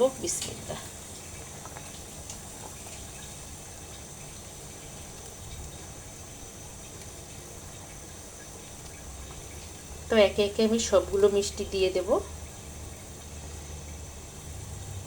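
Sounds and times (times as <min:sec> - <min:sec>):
syrup boiling in a pot: 0:00.0 - 0:15.0.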